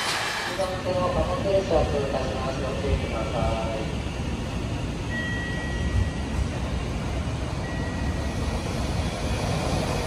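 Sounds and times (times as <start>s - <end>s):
distant freight train rumble: 0.0s - 10.0s.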